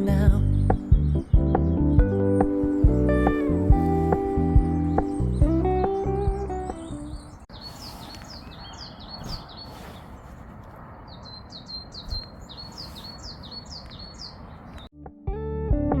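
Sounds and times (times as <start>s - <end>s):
songbird calling high notes: 0.5s - 10.0s, 11.1s - 14.9s.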